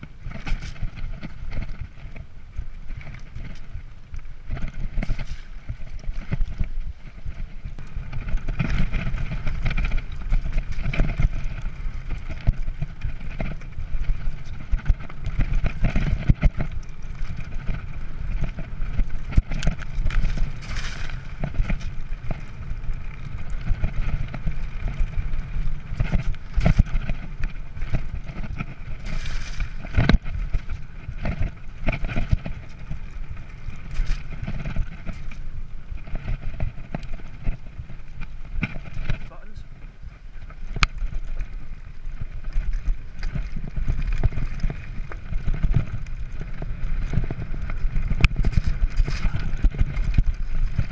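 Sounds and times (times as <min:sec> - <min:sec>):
bike knocking and rattling: 0:00.0 - 0:50.9
bike tyres rumbling on dirt: 0:00.0 - 0:50.9.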